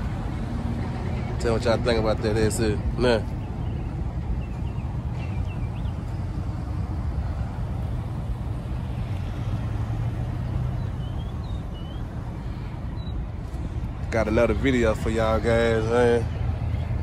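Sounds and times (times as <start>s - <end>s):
low rumble of vehicle engines: 0.0s - 17.0s.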